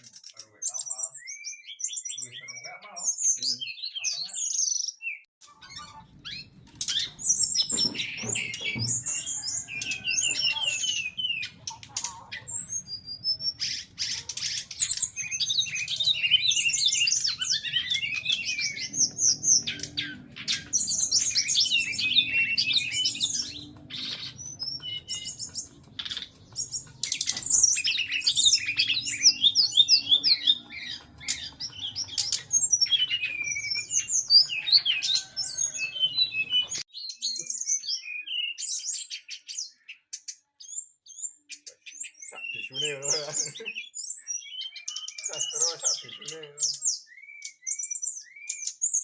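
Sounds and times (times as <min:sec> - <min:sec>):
bird singing chirps and trills: 0:00.0 - 0:49.0.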